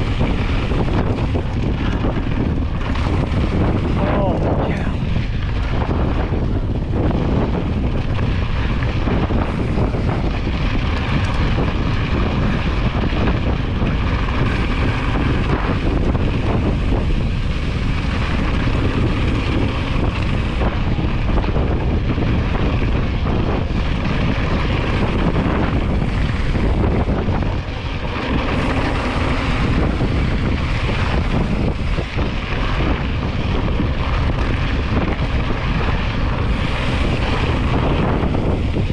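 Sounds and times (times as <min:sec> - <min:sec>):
bike rattling: 0:00.0 - 0:38.9
bike tyres crunching on stones: 0:00.0 - 0:38.9
wind buffeting microphone: 0:00.0 - 0:38.9.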